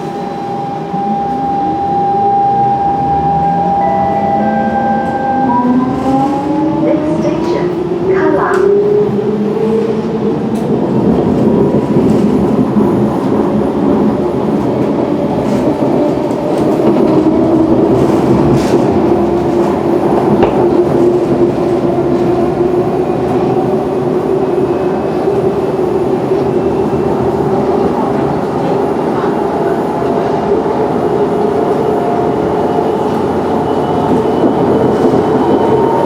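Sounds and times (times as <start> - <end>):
wheel and track rumble: 5.0 - 36.0.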